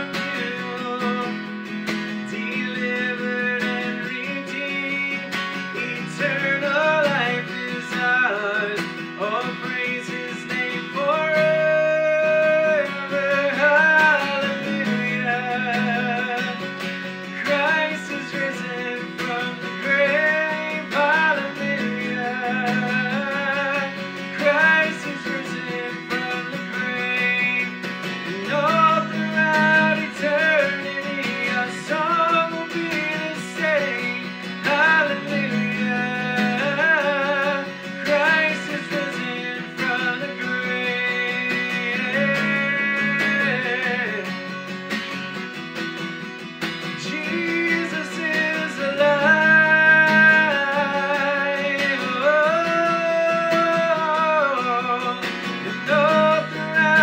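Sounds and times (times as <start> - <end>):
man singing: 0.0 - 57.0
strummed acoustic guitar: 0.0 - 57.0.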